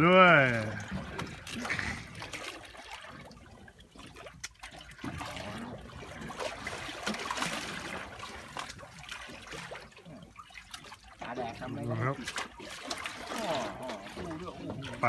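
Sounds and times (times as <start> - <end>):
water lapping against boat: 0.0 - 15.0.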